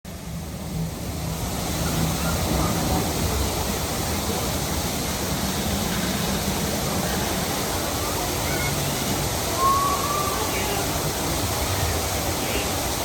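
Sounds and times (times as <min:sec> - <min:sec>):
falling water rushing: 0:00.1 - 0:13.0.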